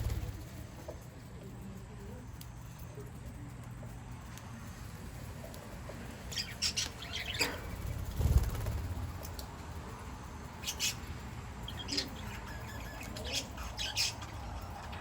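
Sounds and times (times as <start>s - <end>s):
steady low rumble: 0.0s - 12.3s
birds chirping: 0.0s - 15.0s.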